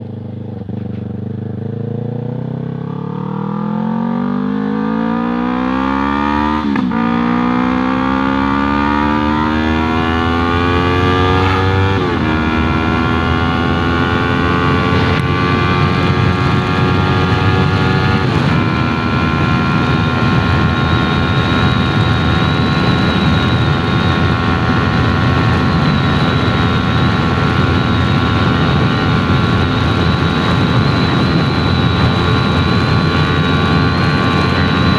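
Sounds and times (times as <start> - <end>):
motorcycle engine accelerating hard: 0.0 - 34.9.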